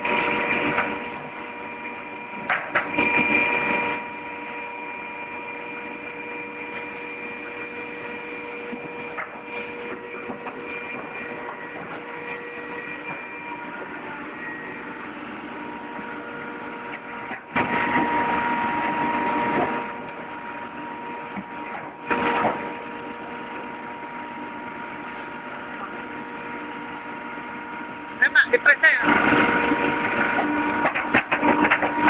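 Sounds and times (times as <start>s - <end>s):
hydraulic press motor hum: 0.0s - 28.2s
loud press working noise: 0.0s - 32.0s.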